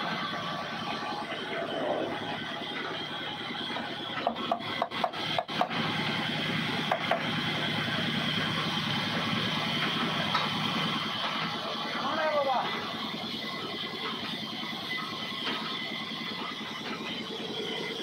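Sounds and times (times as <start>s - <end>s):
band sawmill running: 0.0s - 18.0s.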